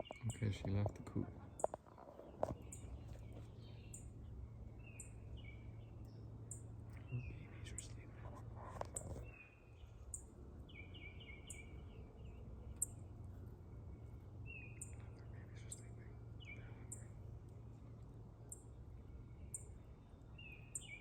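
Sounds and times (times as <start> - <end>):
songbird calls: 0.0 - 13.0, 14.4 - 17.2, 18.5 - 21.0
steady low hum: 0.0 - 21.0.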